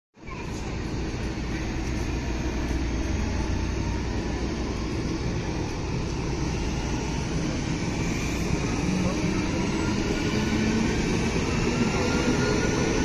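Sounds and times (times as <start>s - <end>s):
train rumbling: 0.2s - 13.0s.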